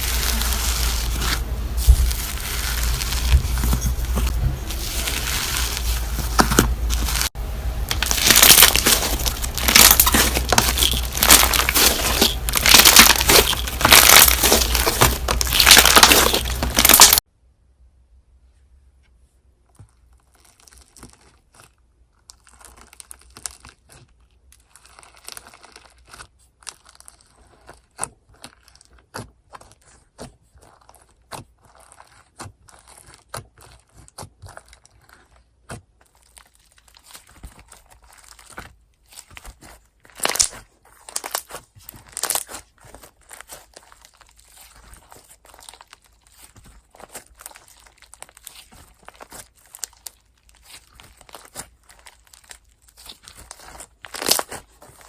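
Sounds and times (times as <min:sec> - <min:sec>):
hands squishing slime: 0:00.0 - 0:17.2, 0:19.7 - 0:55.0.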